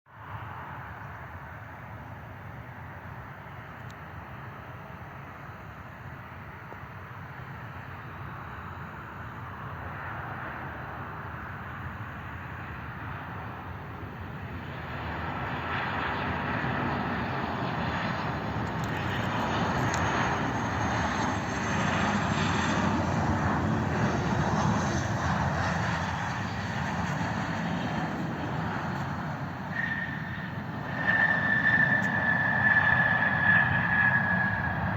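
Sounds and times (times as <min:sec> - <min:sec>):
airliner engine and air rush: 0:00.1 - 0:34.9.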